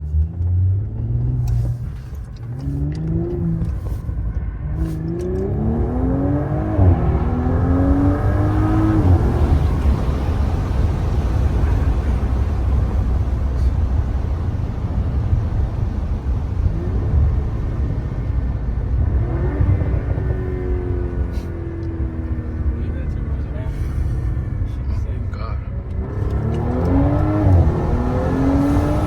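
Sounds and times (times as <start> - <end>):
exhaust pops and crackles: 0.0 - 5.9, 8.2 - 29.0
car engine accelerating: 0.0 - 29.0.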